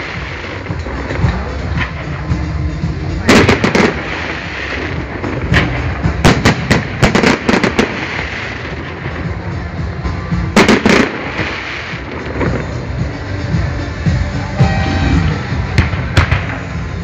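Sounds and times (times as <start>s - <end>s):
fireworks bursting with bangs: 0.0s - 17.0s
music: 0.0s - 17.0s.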